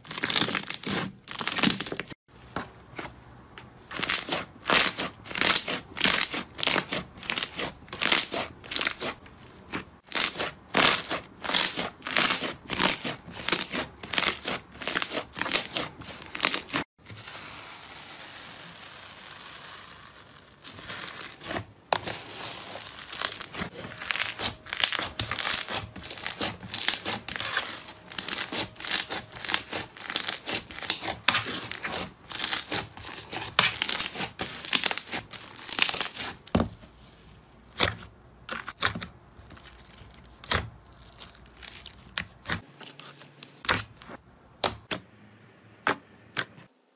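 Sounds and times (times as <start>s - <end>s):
slime crinkling: 0.0s - 3.1s, 3.9s - 44.2s.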